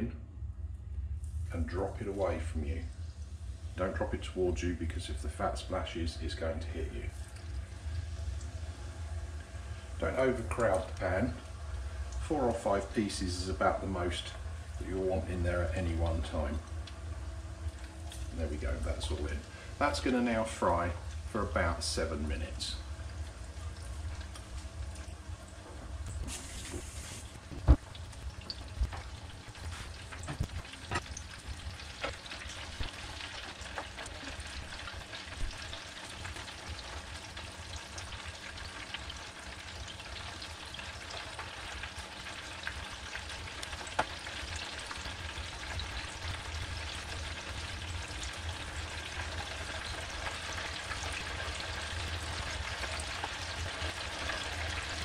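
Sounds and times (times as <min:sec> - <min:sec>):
chicken deep-frying in oil: 0:01.3 - 0:55.0.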